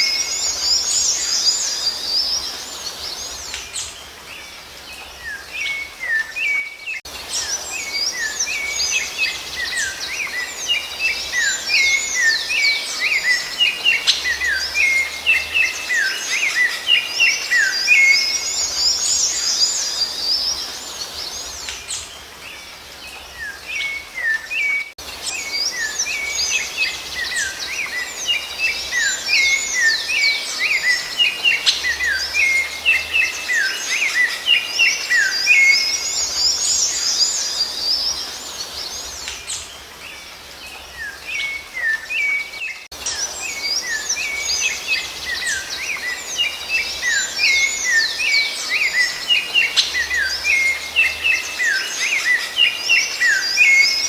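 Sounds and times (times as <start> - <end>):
songbird twittering song: 0.0 - 54.0.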